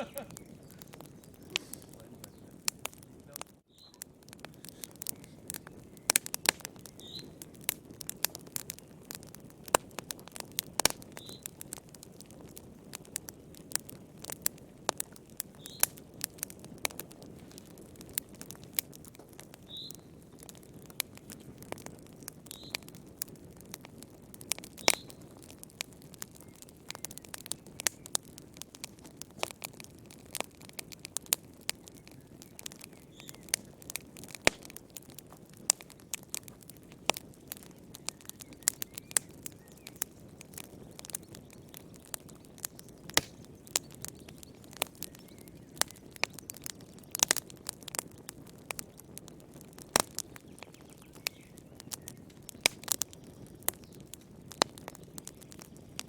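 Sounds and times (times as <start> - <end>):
fire pops and snaps: 0.0 - 56.0
low rush of flames: 0.0 - 56.0.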